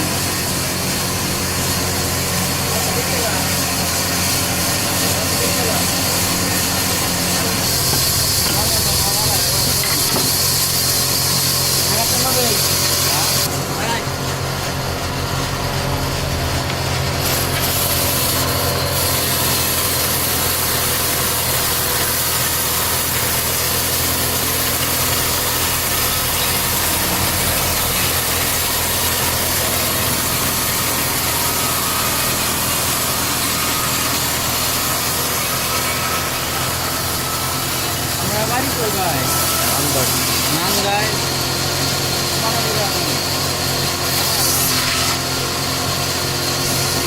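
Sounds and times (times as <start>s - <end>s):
power saw cutting a log: 0.0s - 47.0s
saw drive humming: 0.0s - 47.0s.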